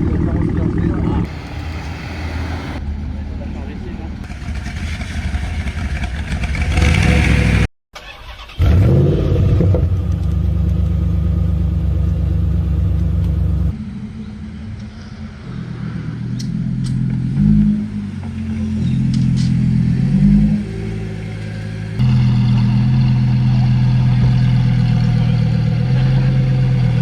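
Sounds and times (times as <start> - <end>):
car accelerating: 1.2 - 7.7, 8.6 - 27.0
car engine revving: 1.2 - 7.7, 8.6 - 27.0.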